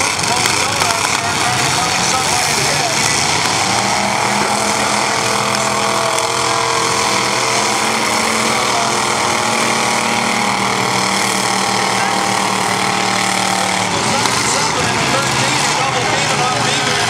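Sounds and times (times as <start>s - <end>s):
car engines running hard: 0.0s - 17.0s.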